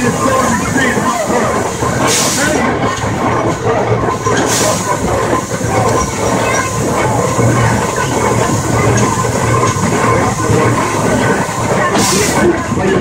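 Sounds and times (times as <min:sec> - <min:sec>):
locomotive wheels clattering on track: 0:00.0 - 0:13.0
steam hissing: 0:00.0 - 0:13.0.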